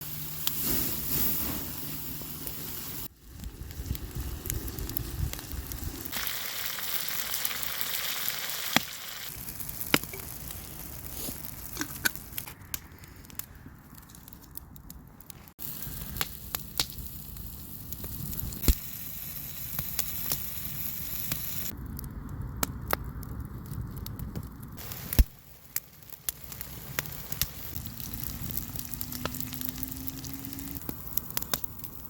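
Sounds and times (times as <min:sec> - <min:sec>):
fire crackling and popping: 0:00.0 - 0:32.0
food sizzling over a wood fire: 0:00.0 - 0:32.0.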